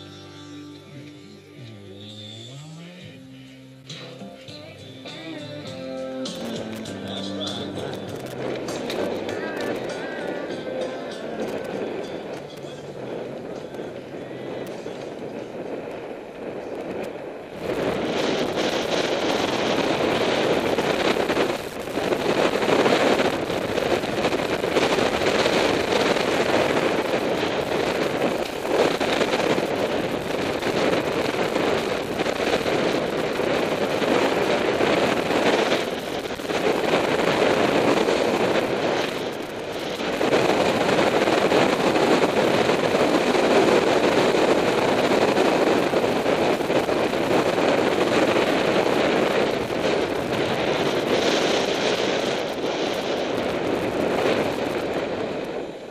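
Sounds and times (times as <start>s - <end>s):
tyre noise on pavement: 4.0s - 55.9s
wind buffeting microphone: 4.2s - 55.9s.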